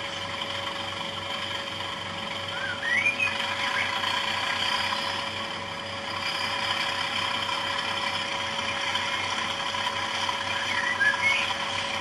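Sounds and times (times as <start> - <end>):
constant hum: 0.0 - 12.0
model train diesel engine sound: 0.0 - 12.0.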